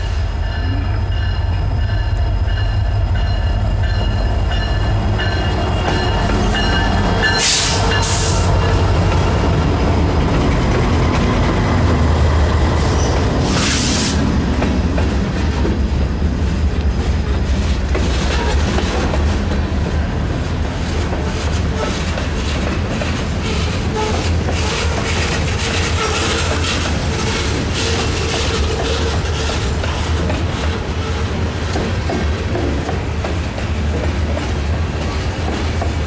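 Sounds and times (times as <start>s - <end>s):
train wheels clattering: 0.0s - 11.8s, 12.9s - 36.0s
diesel locomotives rumbling: 0.0s - 36.0s.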